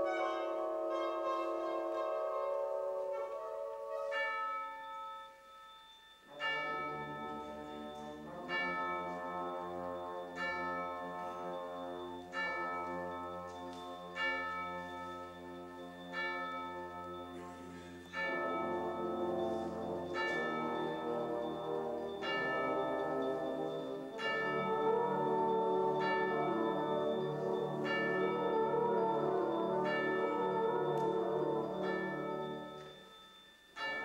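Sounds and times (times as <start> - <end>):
tubular bells tolling: 3.9 - 34.0.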